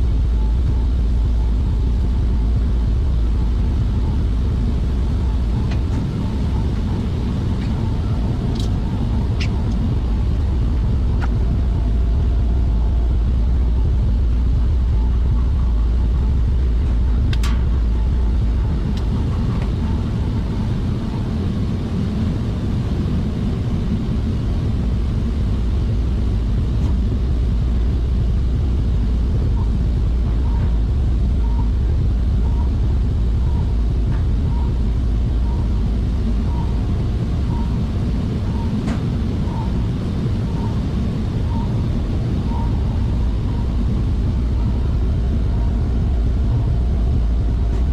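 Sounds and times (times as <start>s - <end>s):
machinery rumbling and humming: 0.0s - 47.9s.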